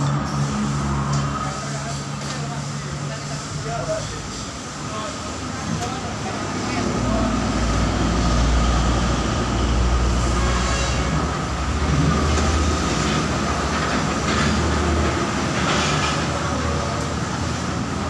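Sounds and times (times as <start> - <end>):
heavy truck engine rumble: 0.0 - 18.0
road traffic: 0.0 - 18.0.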